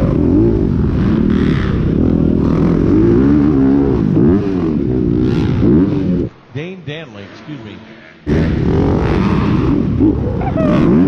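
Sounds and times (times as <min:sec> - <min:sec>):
dirt bike engine revving: 0:00.0 - 0:06.3, 0:07.2 - 0:11.0.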